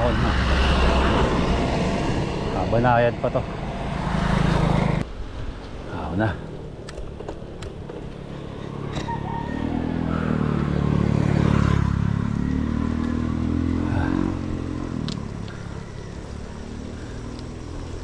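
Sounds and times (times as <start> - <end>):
vehicle engine passing by: 0.0 - 5.0, 8.2 - 18.0.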